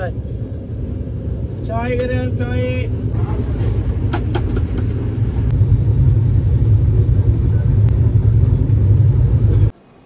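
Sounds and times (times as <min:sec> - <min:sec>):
moving train rumbling: 0:00.0 - 0:10.0.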